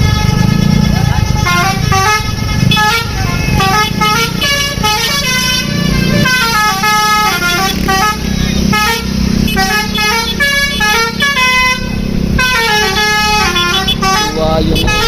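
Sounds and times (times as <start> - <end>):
bus engine running: 0.0 - 15.0
musical bus horn: 0.0 - 15.0.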